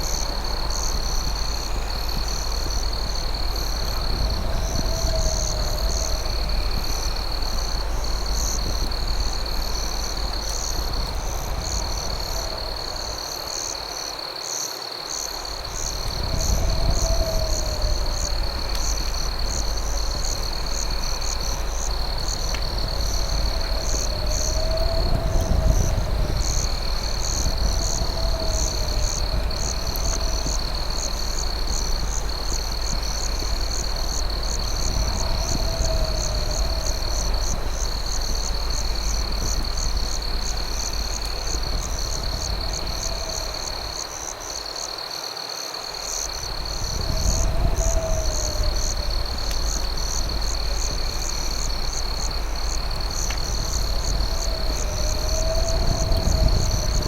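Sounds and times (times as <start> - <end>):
low steady rumble: 0.0 - 13.5, 15.4 - 44.1, 46.3 - 57.0
crickets trilling: 0.0 - 57.0.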